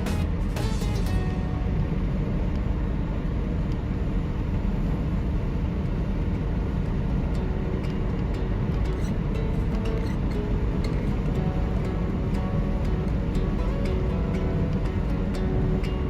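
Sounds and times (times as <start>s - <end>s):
car driving on highway: 0.0s - 16.0s.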